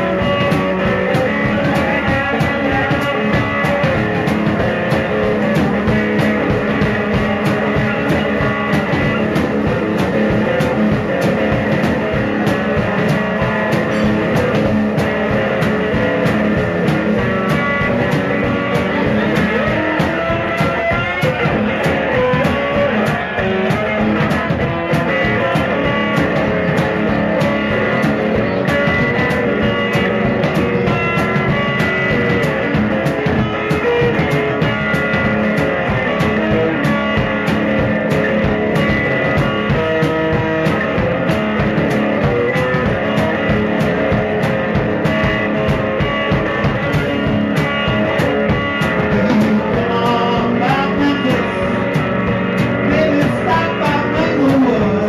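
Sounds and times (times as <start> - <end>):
drum kit beat: 0.0 - 55.0
electric guitar blues: 0.0 - 55.0.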